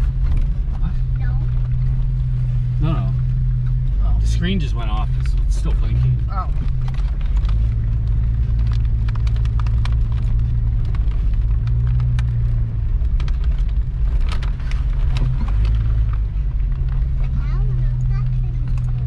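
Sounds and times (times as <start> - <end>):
engine and road drone: 0.0 - 19.0
gravel clicks and rattles: 0.0 - 19.0.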